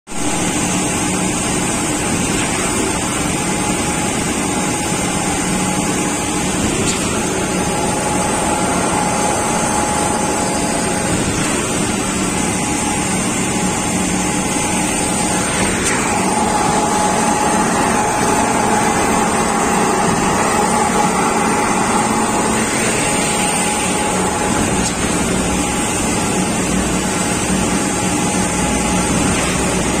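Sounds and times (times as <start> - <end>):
construction machinery engine hum: 0.1 - 30.0.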